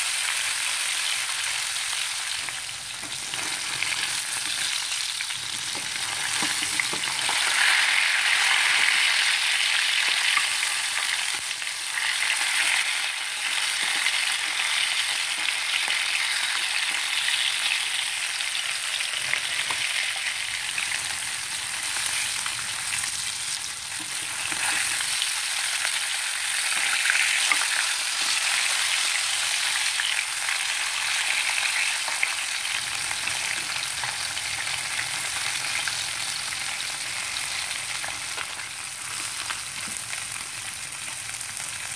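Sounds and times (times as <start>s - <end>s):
fish sizzling in hot oil: 0.0s - 41.9s.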